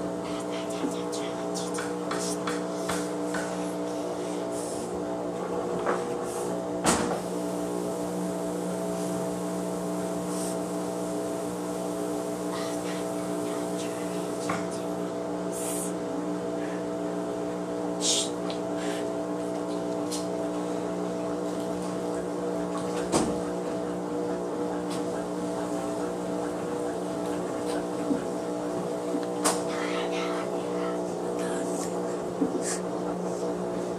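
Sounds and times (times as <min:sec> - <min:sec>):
washing machine motor hum: 0:00.0 - 0:33.9.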